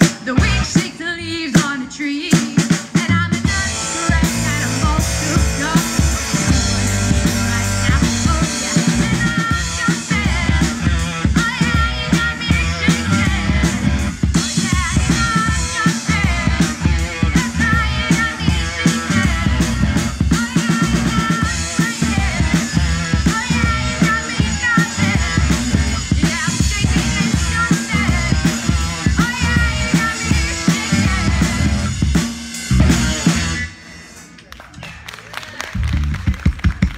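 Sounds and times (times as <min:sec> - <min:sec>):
drum kit beat: 0:00.0 - 0:34.4, 0:35.8 - 0:36.9
electric guitars: 0:03.4 - 0:34.4.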